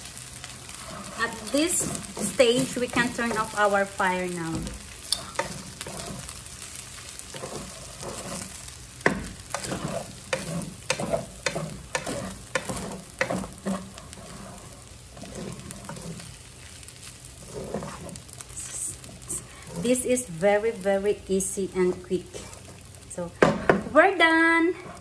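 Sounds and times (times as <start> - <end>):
sizzling pan: 0.0 - 25.0
spatula scraping frying pan: 0.4 - 20.8, 24.7 - 25.0.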